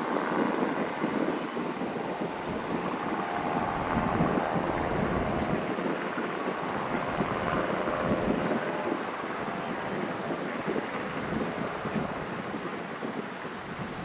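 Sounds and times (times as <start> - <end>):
engine whine: 0.0 - 14.0
helicopter rotor noise: 0.0 - 14.0.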